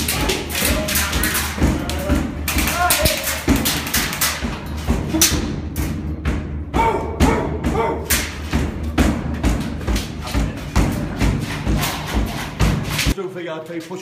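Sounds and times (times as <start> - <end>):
sharp knocks and thumps: 0.0 - 13.2.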